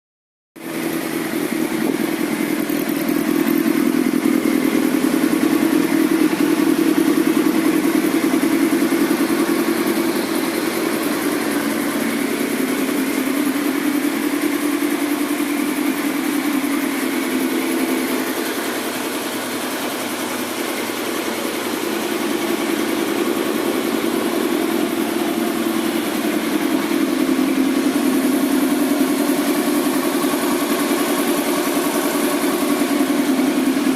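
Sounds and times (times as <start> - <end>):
motorcycle engine idling: 0.6 - 33.9.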